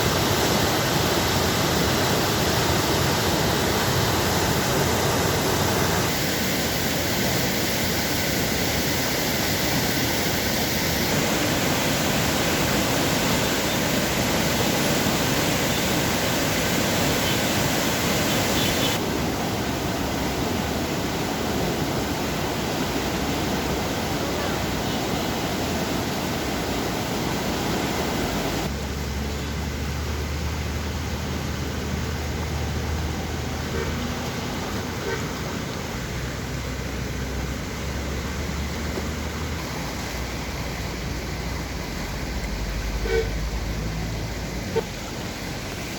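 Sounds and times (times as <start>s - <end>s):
water rushing through sluice gate: 0.0s - 45.9s.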